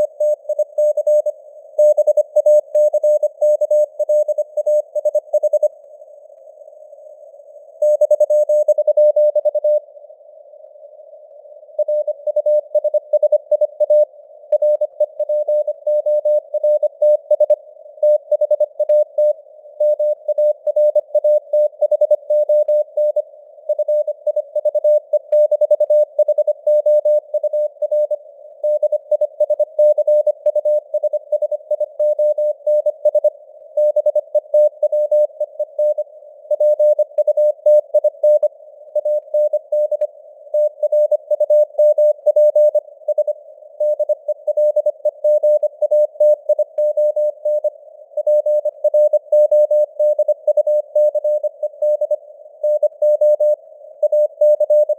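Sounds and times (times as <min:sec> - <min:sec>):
morse code beeps: 0:00.0 - 0:05.7, 0:11.8 - 0:54.9.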